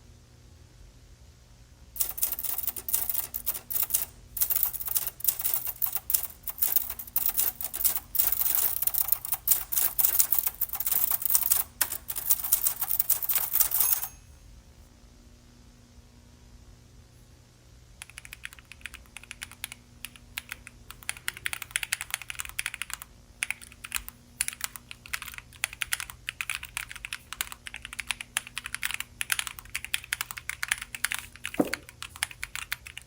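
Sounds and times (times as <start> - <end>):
fast typing on keyboard: 2.0 - 14.1, 18.0 - 33.0.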